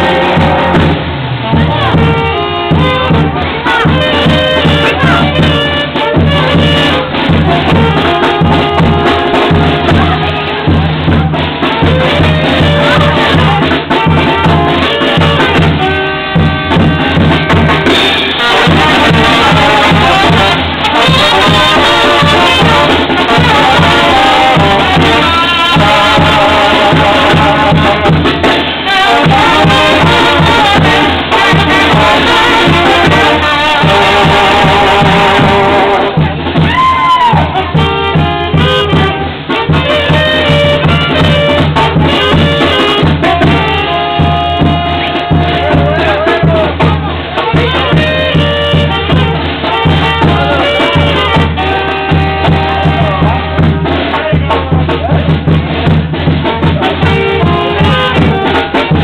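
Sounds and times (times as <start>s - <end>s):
dance music with brass and drums: 0.0s - 59.0s.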